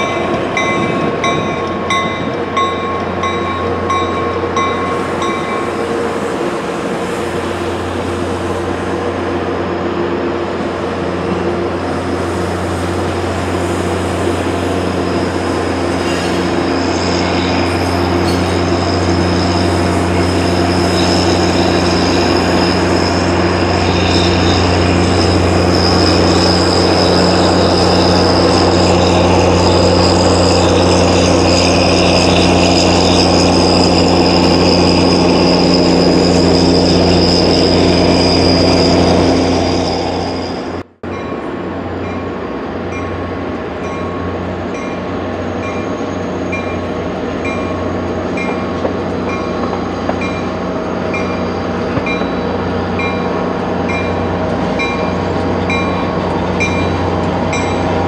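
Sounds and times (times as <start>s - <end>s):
train wheel squeal: 0.0s - 9.1s, 10.8s - 58.0s
locomotive engine hum: 0.0s - 58.0s.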